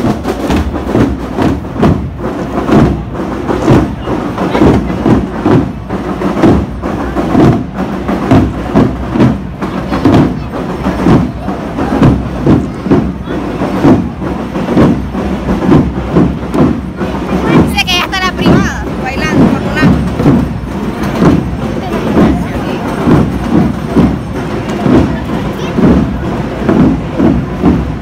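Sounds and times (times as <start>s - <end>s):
marching band drums: 0.0s - 28.0s.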